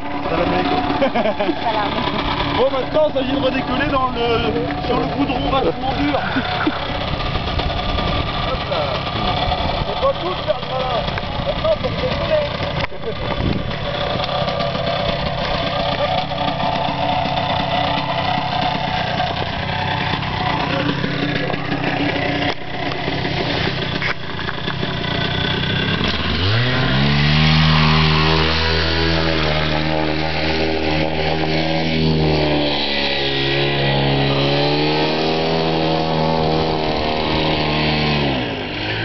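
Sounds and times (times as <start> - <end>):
paramotor engine and propeller: 0.0 - 39.0.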